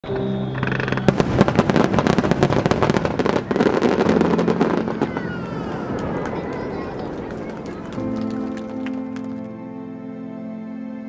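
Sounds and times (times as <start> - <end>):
firework shells crackling: 0.2 - 9.5.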